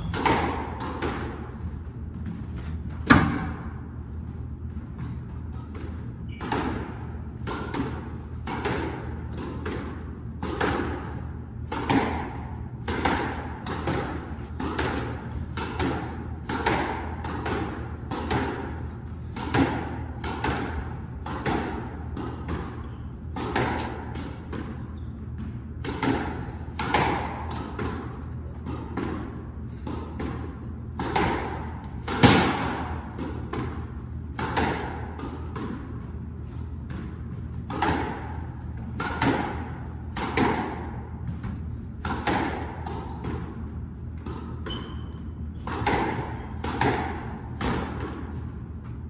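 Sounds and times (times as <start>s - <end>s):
squash ball hitting walls: 0.0s - 49.0s.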